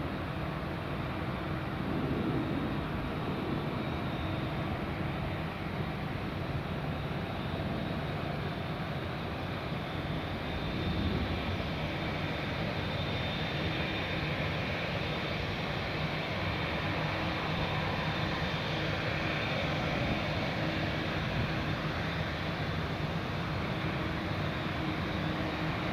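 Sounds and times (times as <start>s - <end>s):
jet engine noise with high whine: 0.0s - 25.9s.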